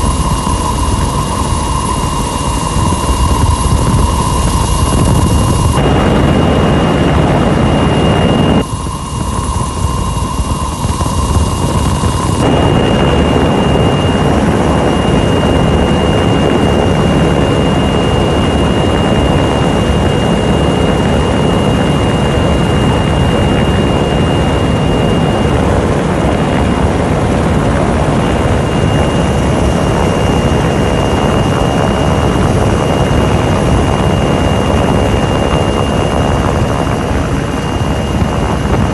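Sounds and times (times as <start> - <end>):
helicopter rotor and engine noise: 0.0 - 38.9
high turbine whine: 0.0 - 38.9.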